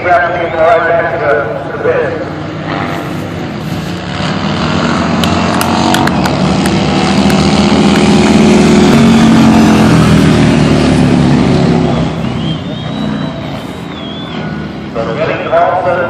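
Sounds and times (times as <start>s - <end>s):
racing motorcycle engines: 0.0s - 16.0s.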